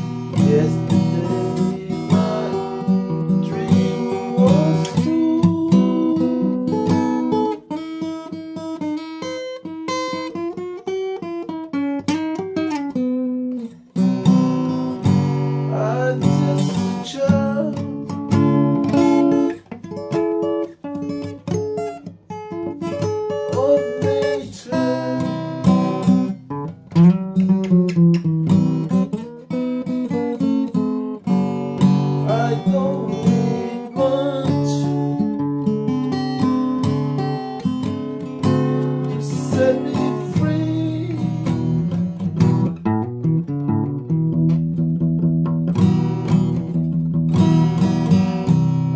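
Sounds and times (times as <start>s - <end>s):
acoustic guitar chords: 0.0s - 48.9s.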